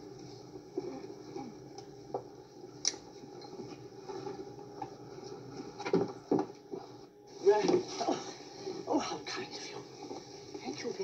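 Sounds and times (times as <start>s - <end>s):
airliner cabin background: 0.0s - 11.0s.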